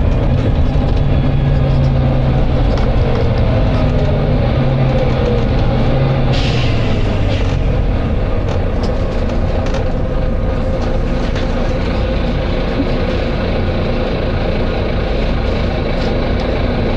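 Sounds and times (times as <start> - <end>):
bus engine droning: 0.0 - 16.9.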